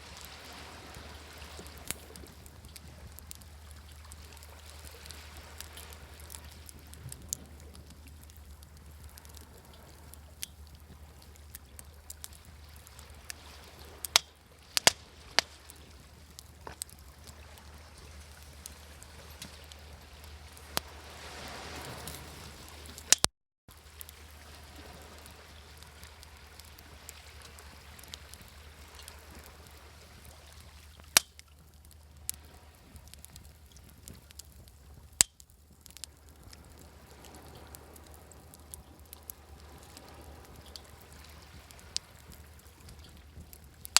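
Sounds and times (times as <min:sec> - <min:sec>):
campfire crackling and popping: 0:00.0 - 0:43.9
sea waves washing: 0:00.0 - 0:43.9.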